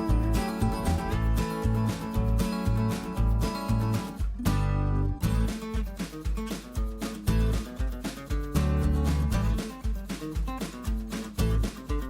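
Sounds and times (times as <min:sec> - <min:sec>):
country acoustic guitar music: 0:00.0 - 0:12.0
steady bass beat: 0:00.0 - 0:12.0.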